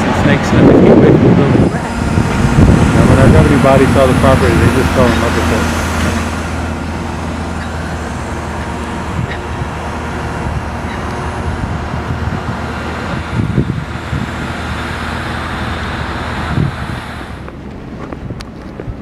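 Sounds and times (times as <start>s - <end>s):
outdoor rumble: 0.0s - 19.0s
wind buffeting microphone: 0.0s - 19.0s.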